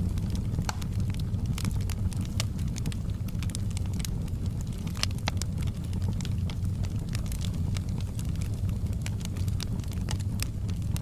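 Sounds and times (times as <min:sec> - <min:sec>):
fireplace fire crackling and popping: 0:00.0 - 0:11.0.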